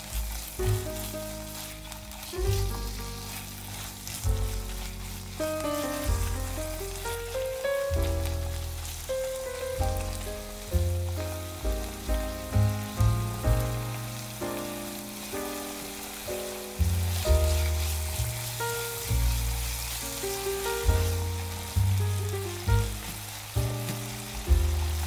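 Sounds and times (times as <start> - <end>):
beef and onion frying: 0.0 - 25.0
music with struck notes and bass: 0.0 - 25.0.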